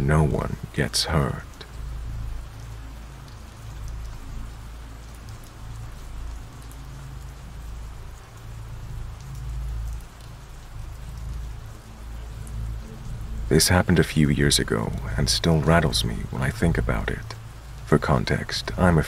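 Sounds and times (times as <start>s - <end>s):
rain falling on a surface: 0.0s - 19.0s.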